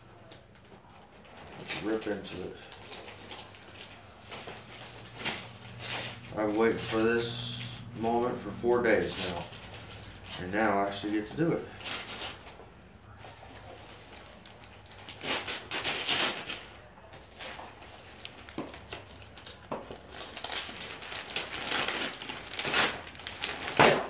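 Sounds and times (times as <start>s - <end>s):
wrapping paper tearing and crinkling: 1.0s - 12.6s, 13.5s - 24.0s.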